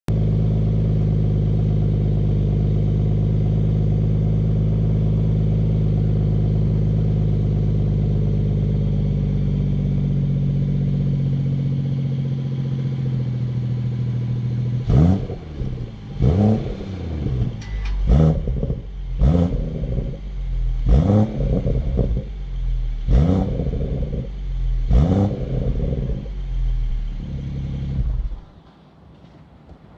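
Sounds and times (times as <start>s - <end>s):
car engine idling and revving: 0.1s - 28.7s.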